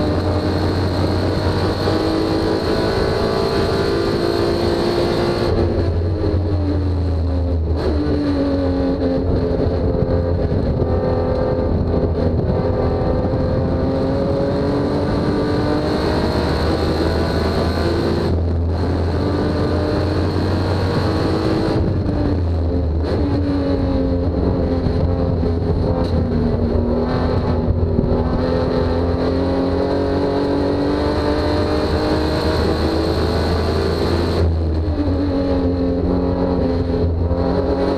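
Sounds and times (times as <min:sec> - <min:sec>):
race car engine accelerating: 0:00.0 - 0:37.9.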